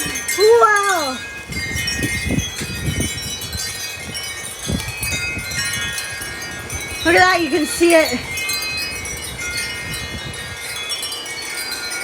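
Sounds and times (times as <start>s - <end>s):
wind rumbling on microphone: 0.0s - 11.1s
wind chimes jangling: 0.0s - 12.0s.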